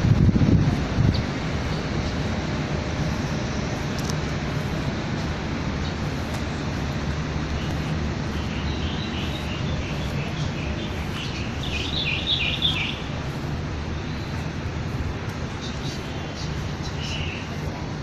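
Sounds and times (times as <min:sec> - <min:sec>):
steady low rumble: 0:00.0 - 0:18.0
birds chirping: 0:00.6 - 0:18.0.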